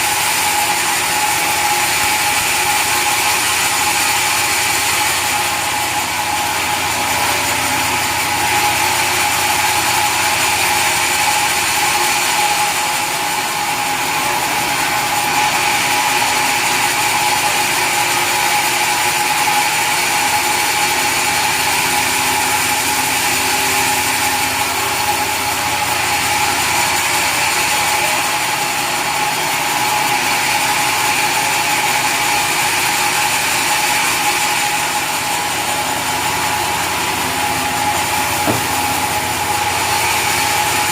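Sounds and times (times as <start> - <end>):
sawmill saw whining: 0.0 - 40.9.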